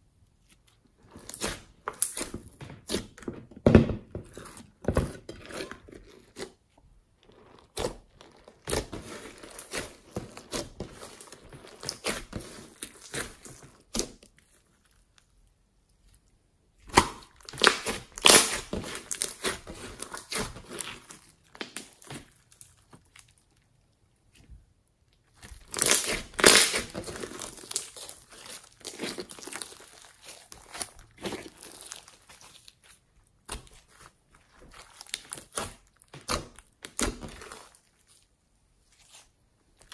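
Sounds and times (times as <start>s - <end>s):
hands squishing slime: 0.4s - 3.3s, 4.1s - 39.9s
slime wet crackling and popping: 0.6s - 3.2s, 7.2s - 24.4s, 25.0s - 38.3s.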